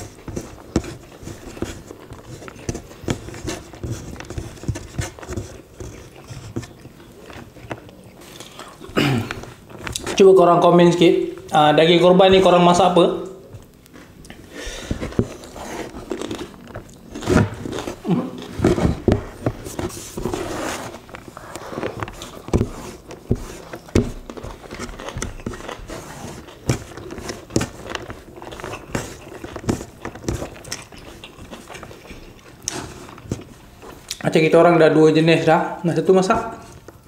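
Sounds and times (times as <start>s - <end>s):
people chewing and smacking: 0.0s - 10.2s, 13.5s - 34.3s, 36.4s - 37.0s.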